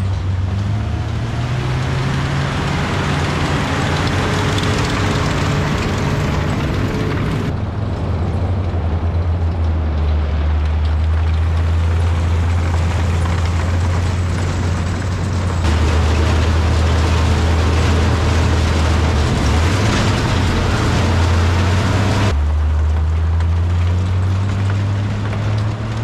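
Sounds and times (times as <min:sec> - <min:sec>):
engine low drone: 0:00.0 - 0:26.0.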